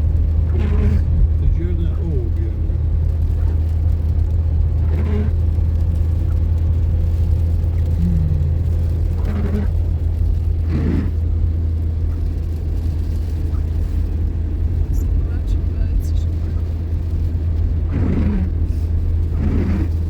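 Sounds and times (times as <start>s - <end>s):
car driving rumble: 0.0s - 20.0s.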